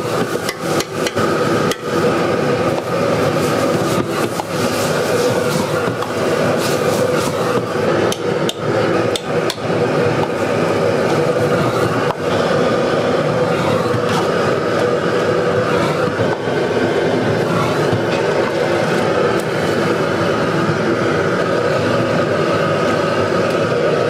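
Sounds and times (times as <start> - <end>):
utensil scraping wok: 0.0 - 20.0
food frying in wok: 0.0 - 24.0
gas burner roar: 0.0 - 24.0.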